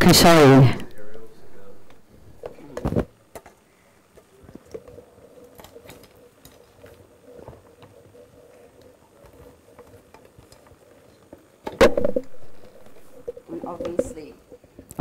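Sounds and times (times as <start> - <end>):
faint steady hum: 0.0 - 15.0
equipment and cables rustling: 0.7 - 15.0.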